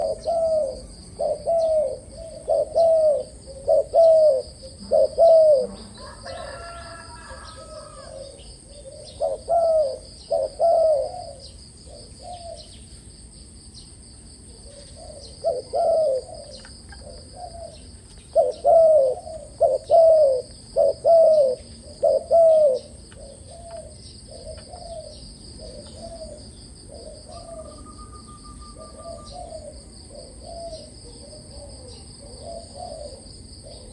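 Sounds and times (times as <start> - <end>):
dove cooing: 0.0 - 12.8, 14.5 - 33.9.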